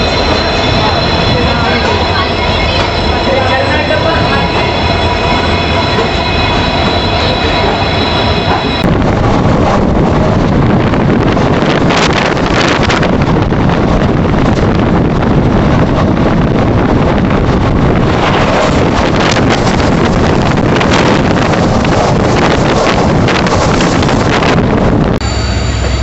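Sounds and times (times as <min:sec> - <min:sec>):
wind buffeting microphone: 0:00.0 - 0:25.2
passing train rattle: 0:00.0 - 0:26.0
train wheels rumbling on track: 0:00.0 - 0:26.0.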